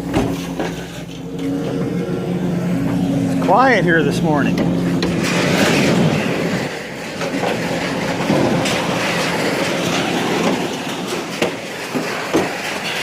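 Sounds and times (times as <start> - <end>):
metal clanks: 0.0 - 13.0
scrap metal scraping and rumbling: 0.0 - 13.0.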